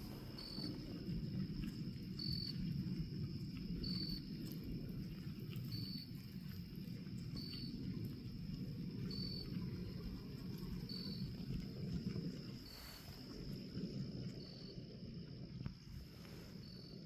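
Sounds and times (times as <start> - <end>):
cricket chirps: 0.0 - 17.0
crickets trilling: 0.0 - 17.0.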